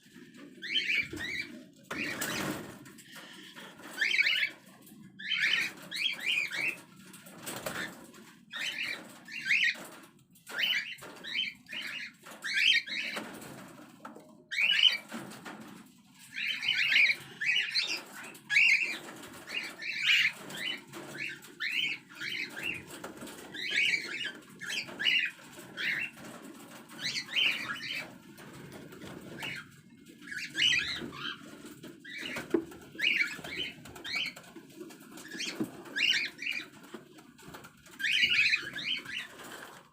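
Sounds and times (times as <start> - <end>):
cockatiels chirping: 0.6 - 6.8, 7.4 - 13.5, 14.5 - 15.7, 16.3 - 26.3, 26.9 - 28.1, 29.0 - 34.4, 35.1 - 37.0, 37.6 - 39.8.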